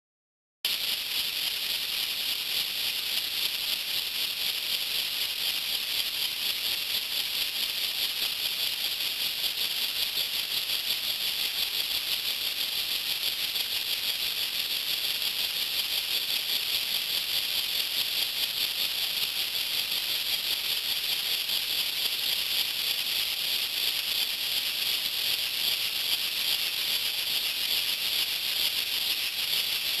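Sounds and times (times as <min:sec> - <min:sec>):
model engine rattling: 0:00.7 - 0:30.0.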